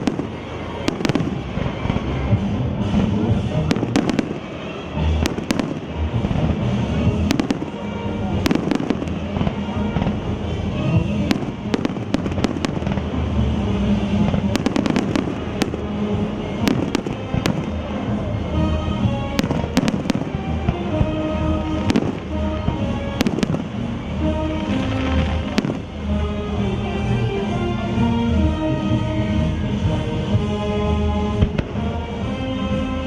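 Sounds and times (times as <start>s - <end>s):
fireworks bangs and crackles: 0.0s - 26.3s, 28.8s - 33.0s
music: 0.0s - 33.0s.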